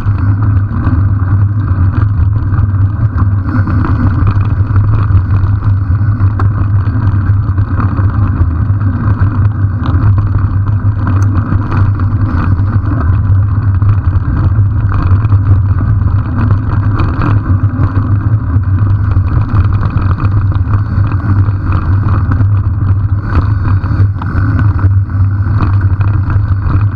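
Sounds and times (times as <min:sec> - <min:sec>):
bike tyre and frame rumble: 0:00.0 - 0:26.9.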